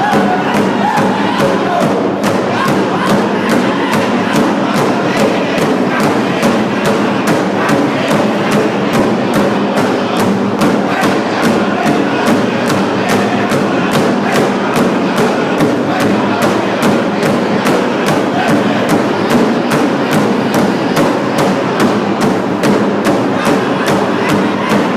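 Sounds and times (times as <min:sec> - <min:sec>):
big drum beating: 0:00.0 - 0:24.9
group singing: 0:00.0 - 0:24.9.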